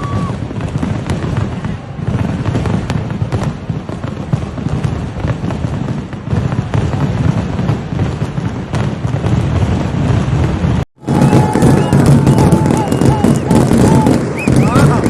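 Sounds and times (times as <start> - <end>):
fireworks cracks and booms: 0.0 - 15.0.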